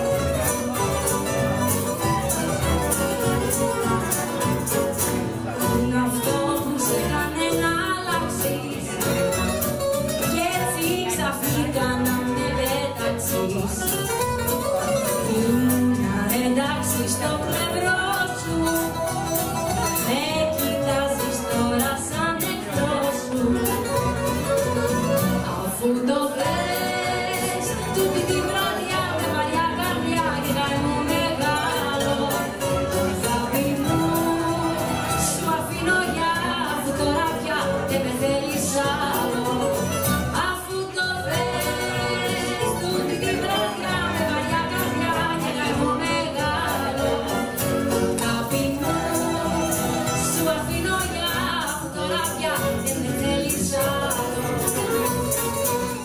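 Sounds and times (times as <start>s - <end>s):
strummed acoustic guitar: 0.0s - 56.0s
woman singing: 5.5s - 56.0s.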